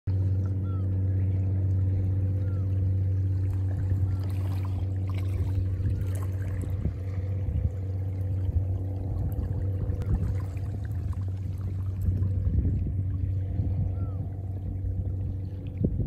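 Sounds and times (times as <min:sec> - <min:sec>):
boat engine drone: 0:00.1 - 0:16.0.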